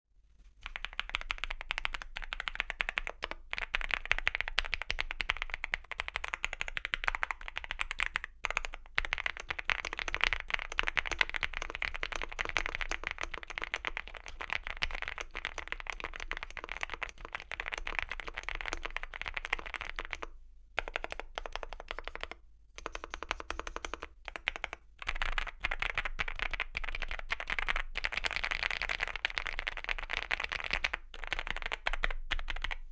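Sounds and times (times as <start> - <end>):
fast typing on mechanical keyboard: 0.6 - 32.9.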